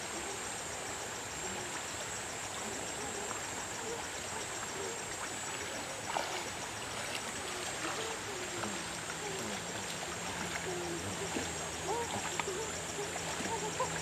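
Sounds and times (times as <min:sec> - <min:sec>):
people wading through water: 0:00.0 - 0:14.0
stream trickling over rocks: 0:00.0 - 0:14.0.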